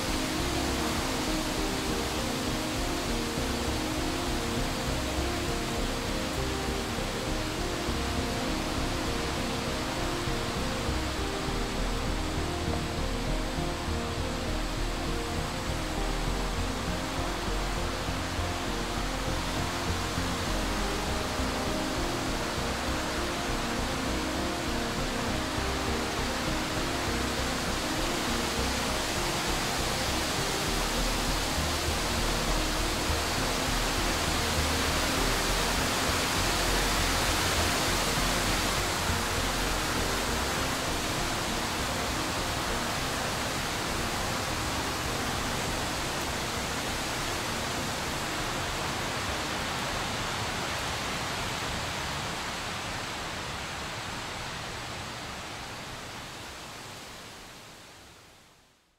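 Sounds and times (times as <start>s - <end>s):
hiss-like rushing noise: 0.0s - 58.9s.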